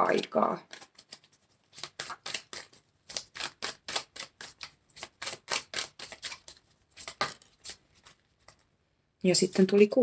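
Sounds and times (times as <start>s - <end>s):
cards being shuffled: 0.0s - 8.7s.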